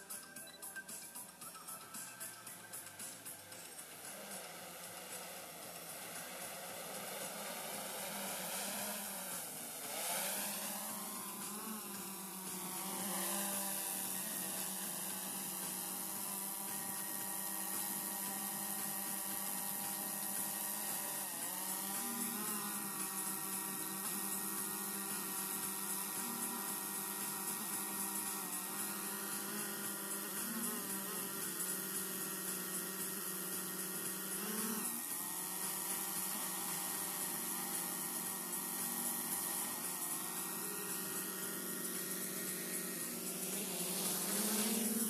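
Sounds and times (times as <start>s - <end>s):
drone propellers buzzing: 0.0s - 45.0s.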